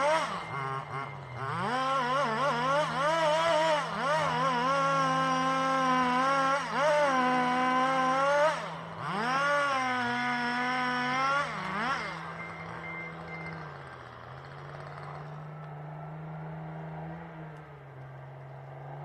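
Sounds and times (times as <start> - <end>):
chainsaw revving: 0.0 - 15.5.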